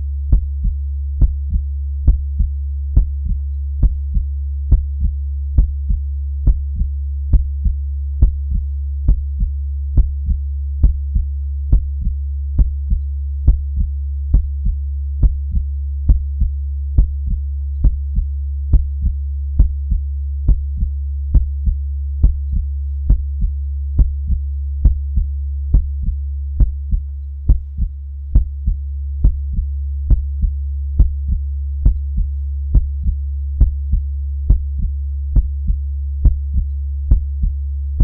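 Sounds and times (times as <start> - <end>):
heartbeat lub-dub: 0.0 - 38.0
steady low hum: 0.0 - 38.0.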